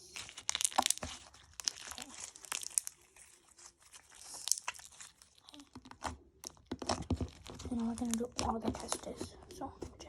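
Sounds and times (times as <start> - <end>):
slime crackling and popping: 0.0 - 9.3.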